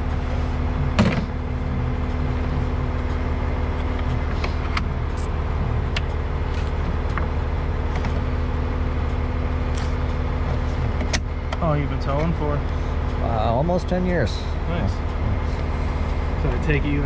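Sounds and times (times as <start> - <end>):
tow truck engine idling: 0.0 - 17.0.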